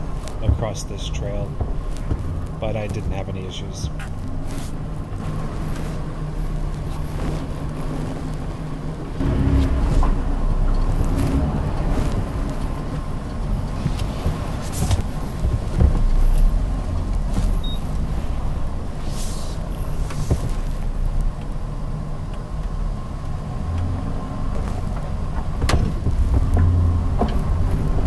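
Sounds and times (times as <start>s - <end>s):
truck engine running low: 0.0s - 28.0s.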